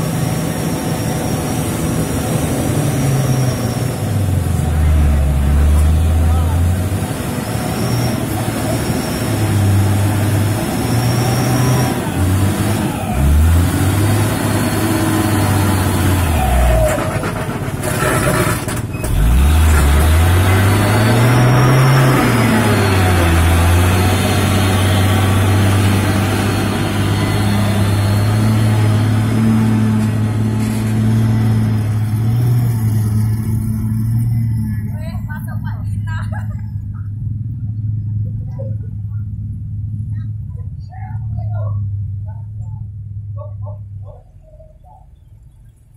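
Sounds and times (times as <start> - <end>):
truck diesel engine running hard: 0.0 - 45.7.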